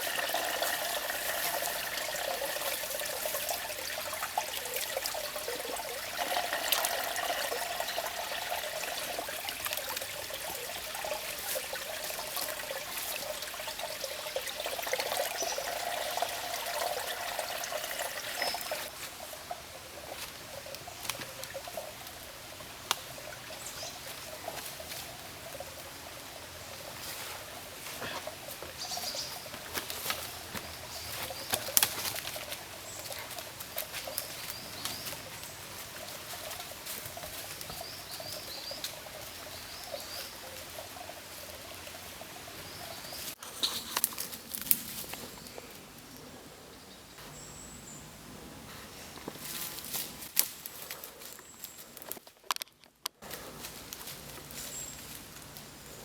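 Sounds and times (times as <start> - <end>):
water trickling: 0.0 - 45.8.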